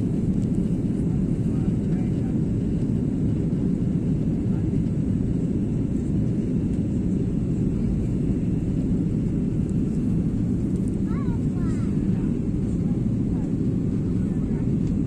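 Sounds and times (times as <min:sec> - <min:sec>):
airliner cabin engine noise: 0:00.0 - 0:15.0.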